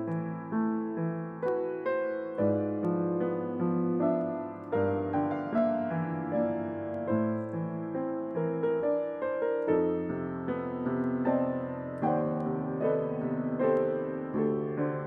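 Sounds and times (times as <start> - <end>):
piano lullaby melody: 0.0 - 15.0.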